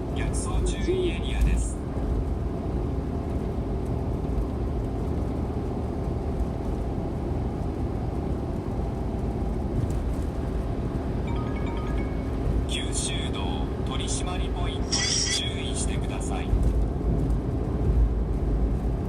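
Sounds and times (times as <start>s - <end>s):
van engine and road noise: 0.0s - 19.0s.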